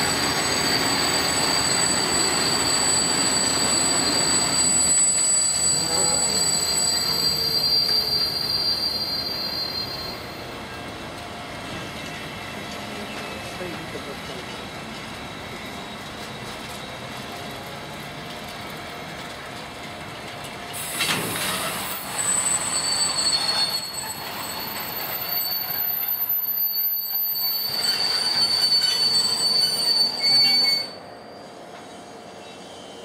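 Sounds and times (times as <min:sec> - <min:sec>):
train wheels squealing: 0:00.0 - 0:18.2, 0:19.0 - 0:33.0
freight train wagons rolling: 0:00.0 - 0:32.2.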